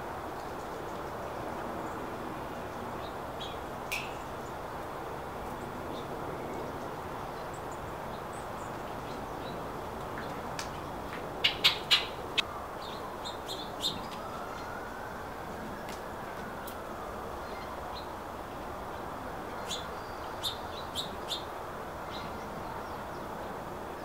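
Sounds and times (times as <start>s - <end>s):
steady background hiss: 0.0s - 24.0s
songbirds chipping: 0.1s - 24.0s.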